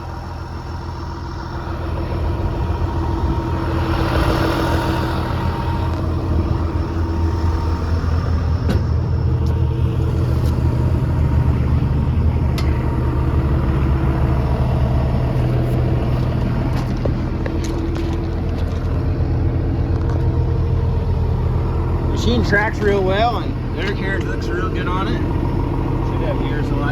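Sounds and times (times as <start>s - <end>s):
excavator diesel engine idling: 0.0s - 26.9s.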